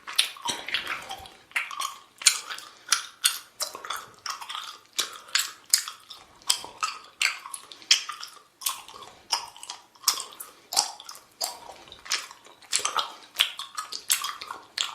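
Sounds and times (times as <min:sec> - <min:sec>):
person chewing gum wetly: 0:00.0 - 0:14.9.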